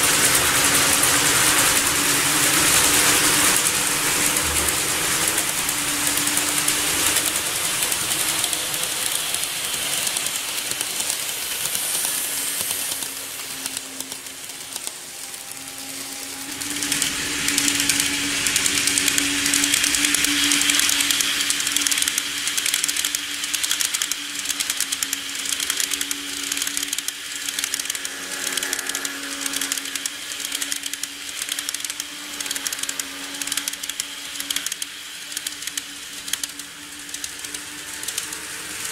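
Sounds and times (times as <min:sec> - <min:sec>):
model train motor hum: 0:00.0 - 0:38.9
wheels clicking over rail joints: 0:00.0 - 0:38.9.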